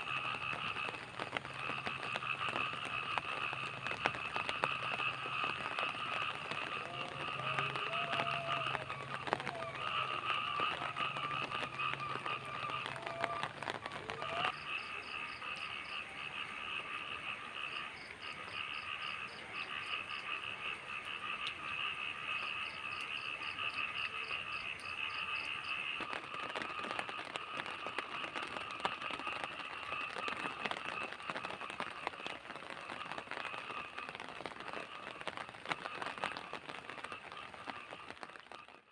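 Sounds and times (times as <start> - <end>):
frogs and insects trilling: 0.0 - 38.9
rain drops pattering: 0.0 - 38.9.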